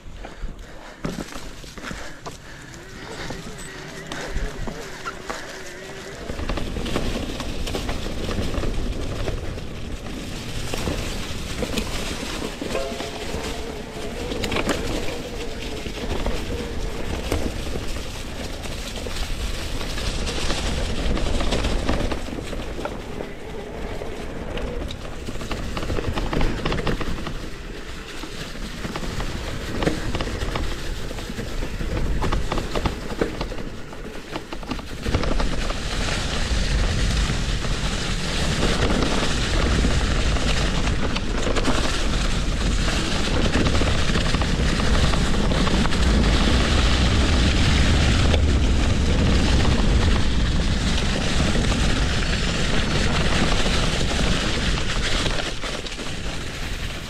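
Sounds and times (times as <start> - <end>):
bike tyre noise: 0.0 - 57.0
wind rumble on microphone: 0.0 - 57.0.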